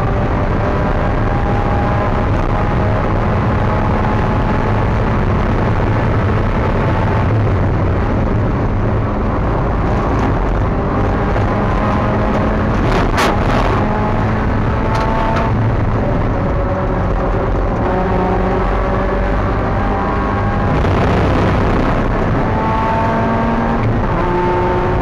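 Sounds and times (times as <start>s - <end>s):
race car engine running hard: 0.0s - 25.0s
road and wind noise: 0.0s - 25.0s.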